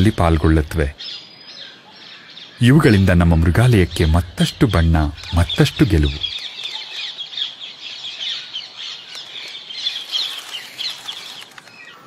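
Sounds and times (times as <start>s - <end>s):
wild birds chirping: 0.0s - 12.0s.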